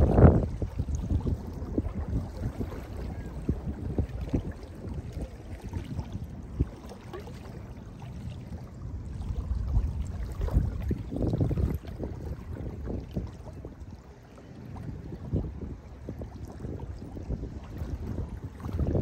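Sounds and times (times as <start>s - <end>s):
waves lapping on a beach: 0.0s - 19.0s.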